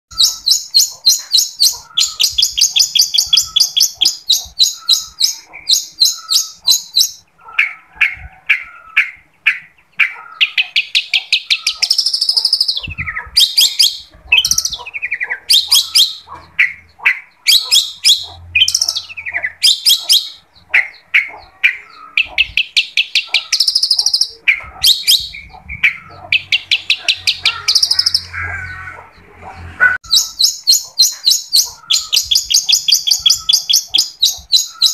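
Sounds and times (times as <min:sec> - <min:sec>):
shrike singing: 0:00.1 - 0:29.3, 0:30.0 - 0:34.9
harsh bird chattering: 0:00.1 - 0:34.9.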